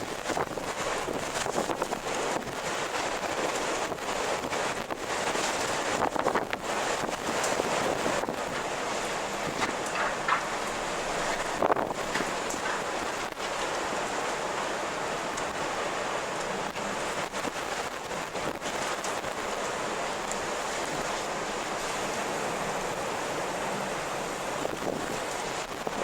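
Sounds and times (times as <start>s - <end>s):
strong wind blowing: 0.0s - 26.0s.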